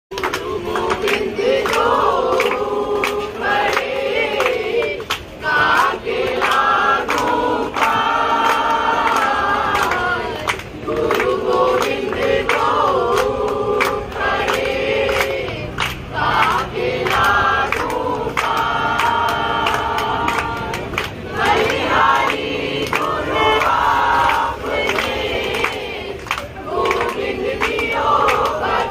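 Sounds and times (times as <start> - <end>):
group singing in unison: 0.1 - 28.9
people clapping: 0.1 - 28.9.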